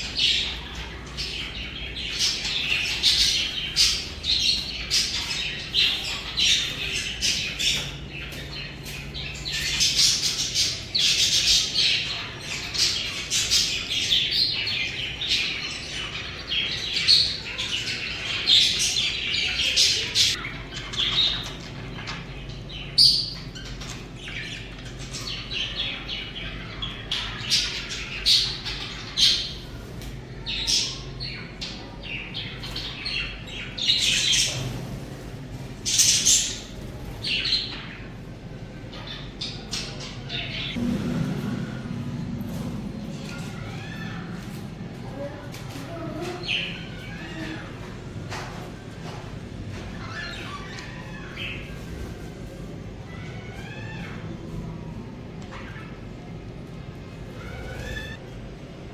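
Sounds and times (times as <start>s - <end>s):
budgies chattering and chirping: 0.0s - 58.6s.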